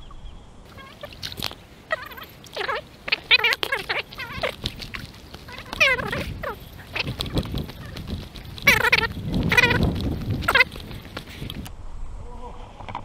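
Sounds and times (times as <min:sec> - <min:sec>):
animal wavering cries: 0:00.7 - 0:11.6.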